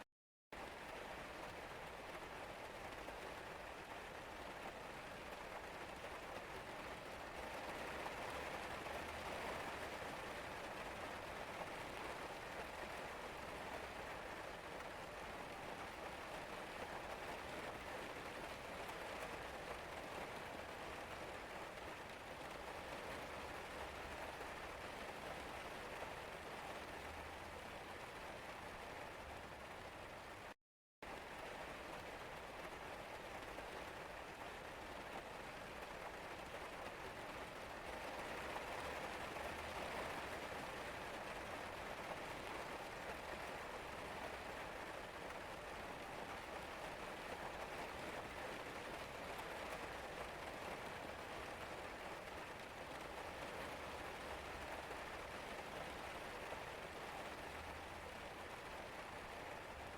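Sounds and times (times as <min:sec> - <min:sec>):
rain pattering: 0:00.6 - 0:59.9.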